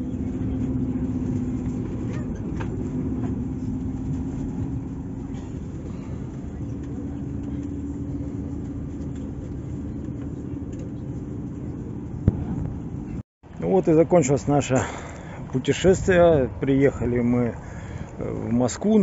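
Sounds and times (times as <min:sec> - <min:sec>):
airliner cabin rumble and hum: 0:00.0 - 0:19.0.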